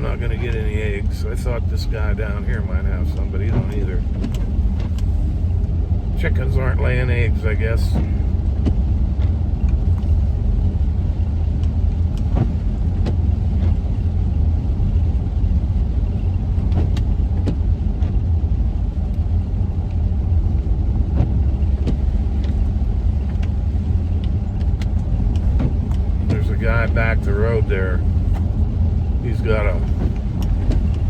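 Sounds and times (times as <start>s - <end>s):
van engine and tyre rumble: 0.0s - 31.0s.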